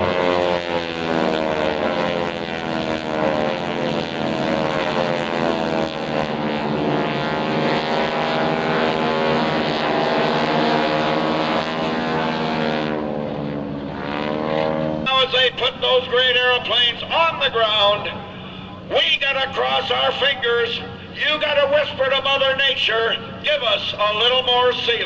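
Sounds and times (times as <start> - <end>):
biplane engines droning: 0.0 - 25.0.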